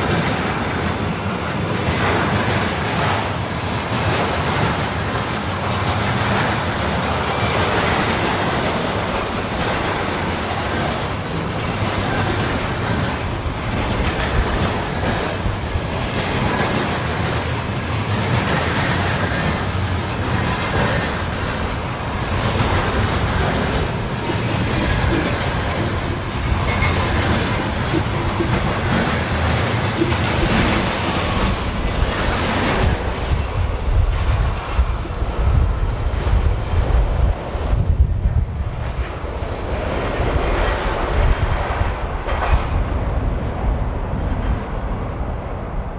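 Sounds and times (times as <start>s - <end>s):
train wheels clattering over rails: 0.0s - 37.9s, 38.6s - 45.5s.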